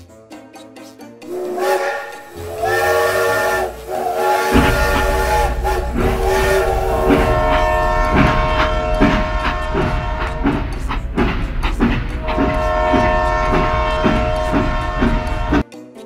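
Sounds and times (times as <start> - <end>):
toy steam whistle: 1.2 - 15.6.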